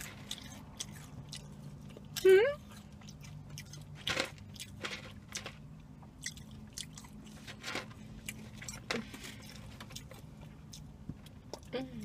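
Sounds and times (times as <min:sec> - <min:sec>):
low steady hum: 0:00.0 - 0:12.0
people chewing food: 0:00.0 - 0:12.0.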